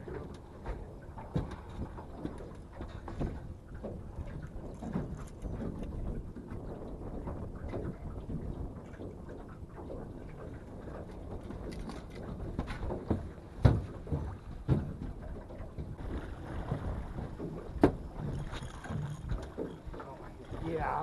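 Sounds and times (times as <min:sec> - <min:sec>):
water noise around boat: 0:00.0 - 0:21.0
wind: 0:00.0 - 0:21.0
sharp knocks on boat: 0:00.1 - 0:21.0.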